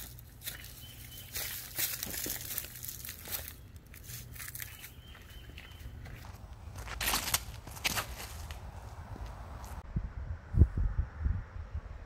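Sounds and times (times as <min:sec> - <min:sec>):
footsteps on leafy wood chips: 0:00.0 - 0:09.8.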